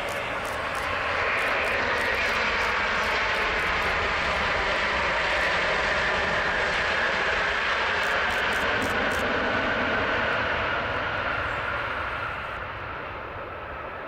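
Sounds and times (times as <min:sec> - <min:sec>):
jet engine whine: 0:00.0 - 0:14.0
jet engines roaring: 0:00.0 - 0:14.0.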